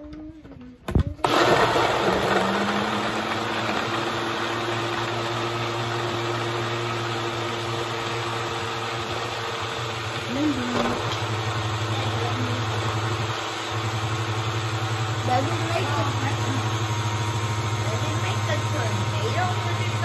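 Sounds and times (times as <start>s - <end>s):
blender running: 1.2s - 20.0s.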